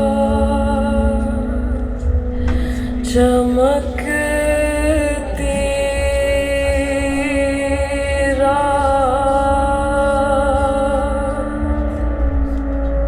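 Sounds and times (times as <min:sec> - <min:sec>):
chant-like singing: 0:00.0 - 0:13.0
deep bass: 0:00.0 - 0:13.0.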